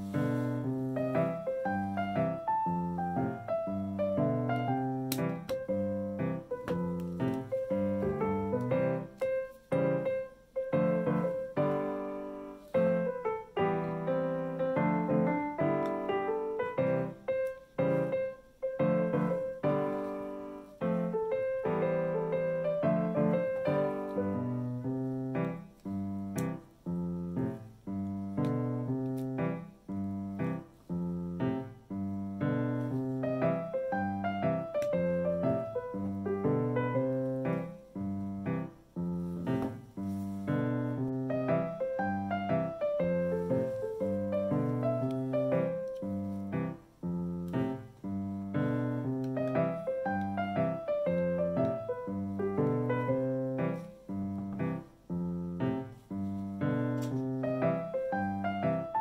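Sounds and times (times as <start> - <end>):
piano melody: 0.0 - 59.0.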